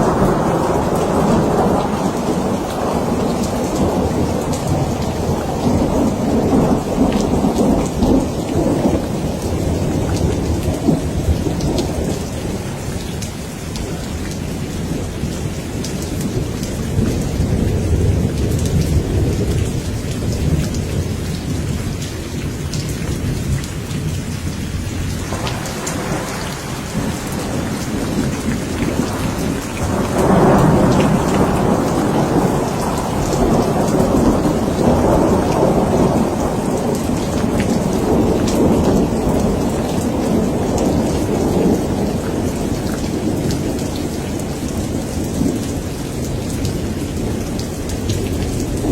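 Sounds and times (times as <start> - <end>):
rolling thunder: 0.0 - 13.1, 13.8 - 48.9
heavy rain: 0.0 - 48.9.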